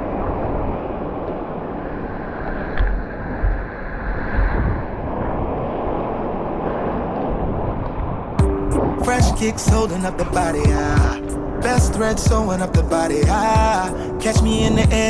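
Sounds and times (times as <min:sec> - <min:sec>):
ocean surf rushing: 0:00.0 - 0:15.0
wind buffeting microphone: 0:02.5 - 0:15.0.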